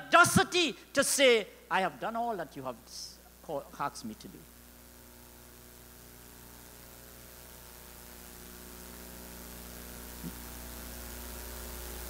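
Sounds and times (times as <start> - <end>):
electrical mains hum: 0.0 - 12.0
microphone hiss: 0.0 - 12.0.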